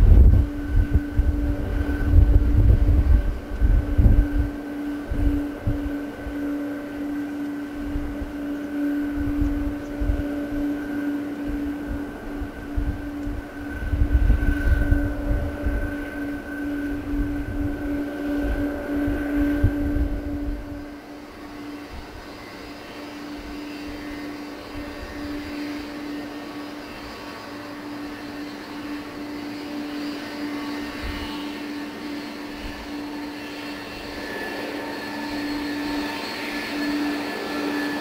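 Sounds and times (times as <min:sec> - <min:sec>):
jet engines whining: 0:00.0 - 0:38.0.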